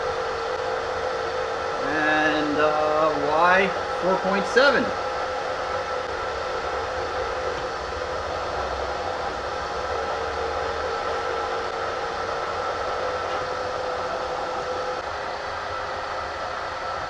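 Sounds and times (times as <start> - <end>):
milling machine motor humming: 0.0 - 17.0.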